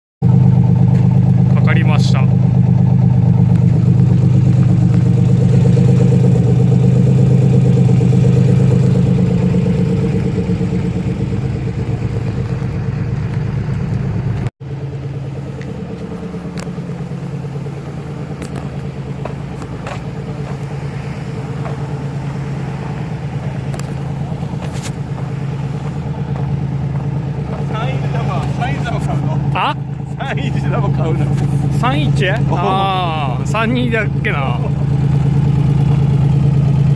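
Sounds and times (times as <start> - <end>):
car engine idling: 0.2 - 36.9.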